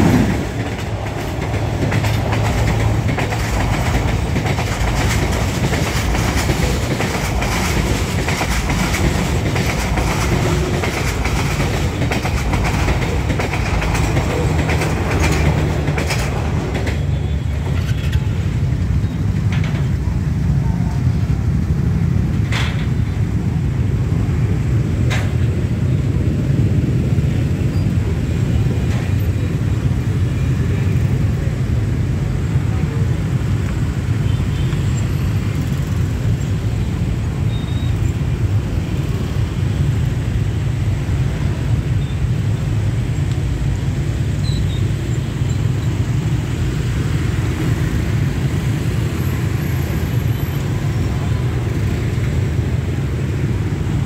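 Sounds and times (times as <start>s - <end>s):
many motorbike engines rumbling: 0.0s - 54.0s.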